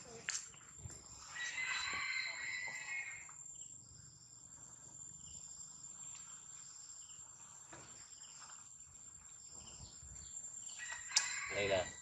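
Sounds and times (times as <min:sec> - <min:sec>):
high-pitched insect drone: 0:00.0 - 0:12.0
soft insect chirps: 0:00.0 - 0:12.0.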